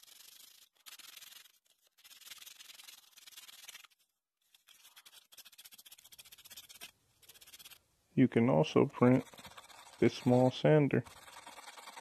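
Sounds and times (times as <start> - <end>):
sandpaper rubbing back and forth: 0.0 - 7.8, 8.8 - 12.0.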